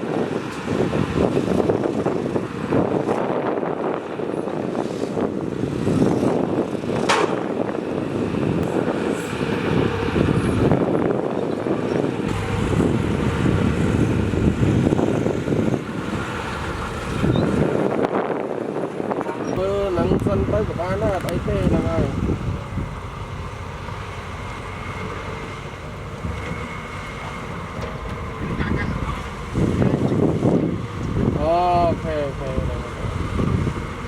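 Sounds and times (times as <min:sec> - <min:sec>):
diesel machinery running: 0:00.0 - 0:34.0.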